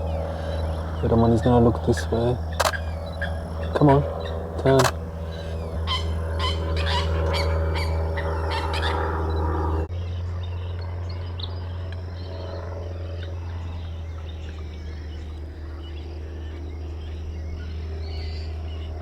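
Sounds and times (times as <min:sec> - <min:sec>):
birds chirping: 0:00.0 - 0:19.0
steady low drone: 0:00.0 - 0:19.0.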